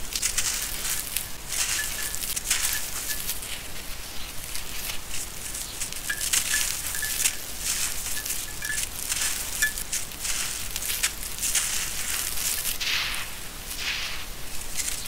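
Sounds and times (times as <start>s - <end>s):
gritty crunching: 0.0s - 15.0s.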